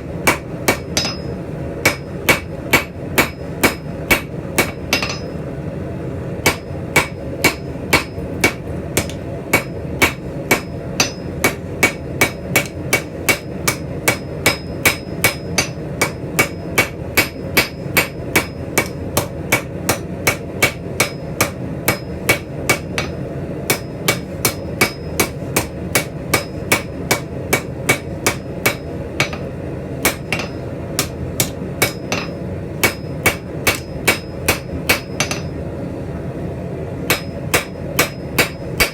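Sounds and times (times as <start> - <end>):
hammer blows on anvil: 0.0 - 5.4, 6.4 - 35.6, 37.1 - 38.9.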